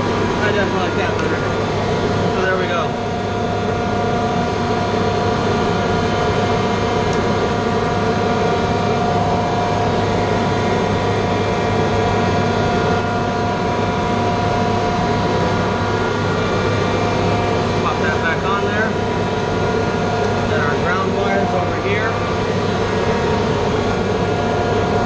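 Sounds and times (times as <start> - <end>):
machinery droning: 0.0 - 25.0.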